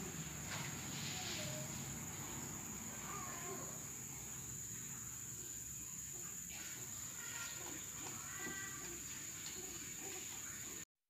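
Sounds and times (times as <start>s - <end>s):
high-pitched insect drone: 0.0s - 10.8s.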